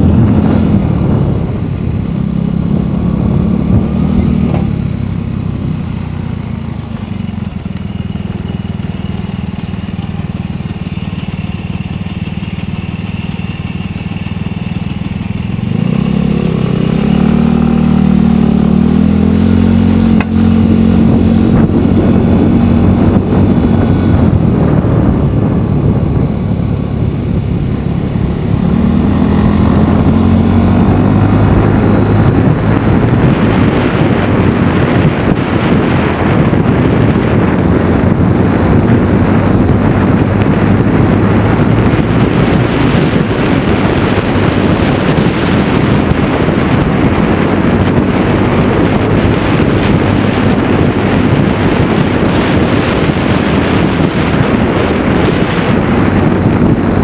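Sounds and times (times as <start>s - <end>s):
scooter engine running: 0.0s - 57.0s
wind rushing over microphone: 0.0s - 57.0s.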